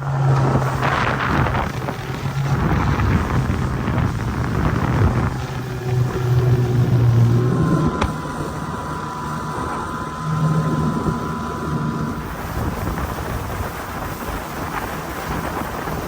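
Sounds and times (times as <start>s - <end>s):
faint motor hum: 0.0s - 16.0s
wind rushing over microphone: 0.0s - 16.0s.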